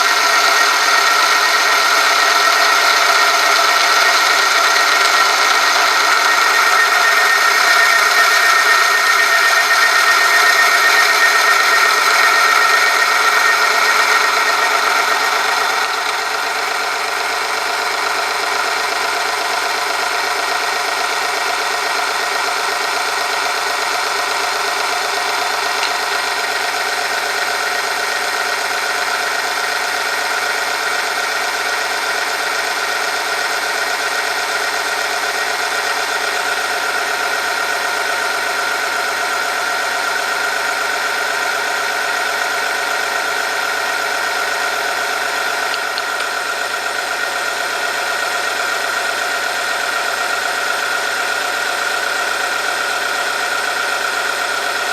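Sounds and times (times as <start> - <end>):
steady high whine: 0.0 - 53.7.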